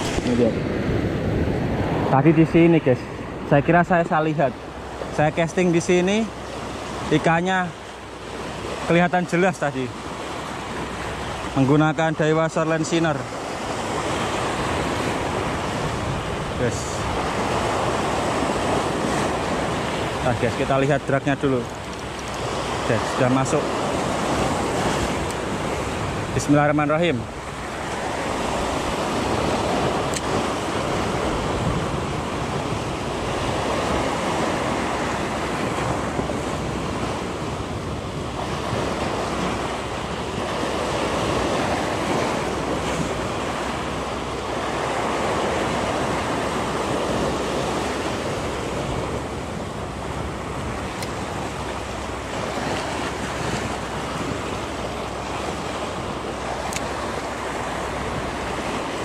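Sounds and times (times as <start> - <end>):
sea surf breaking on rocks: 0.0 - 59.0.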